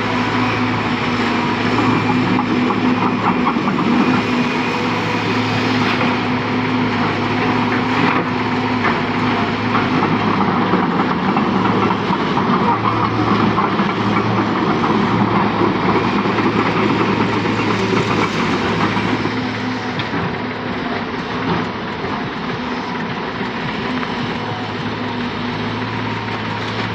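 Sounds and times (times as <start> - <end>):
heavy diesel machinery running: 0.0 - 26.9.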